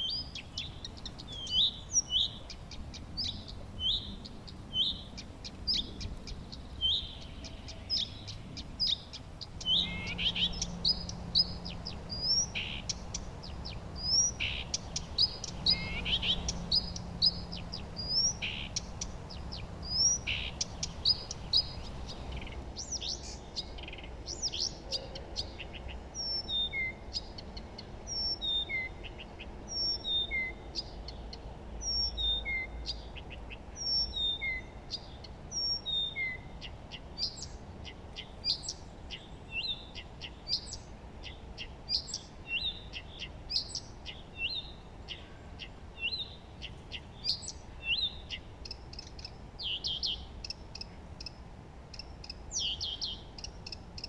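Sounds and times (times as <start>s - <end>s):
faint low background rumble: 0.0s - 54.0s
songbirds singing and chirping: 0.0s - 54.0s.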